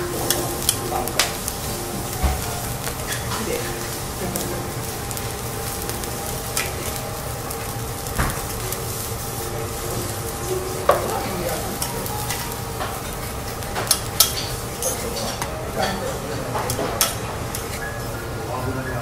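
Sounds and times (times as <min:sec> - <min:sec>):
rice sizzling on a griddle: 0:00.0 - 0:19.0.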